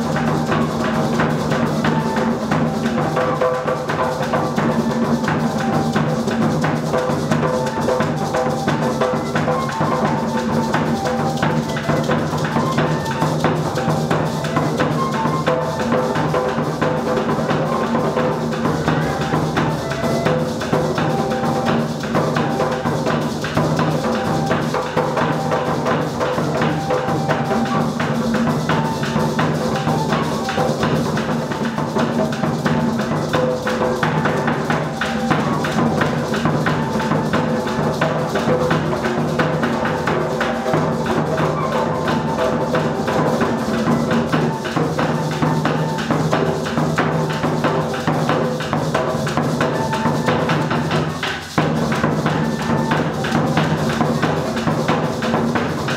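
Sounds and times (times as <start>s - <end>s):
flute playing held notes: 0.0s - 55.9s
hand drums beating: 0.0s - 55.9s.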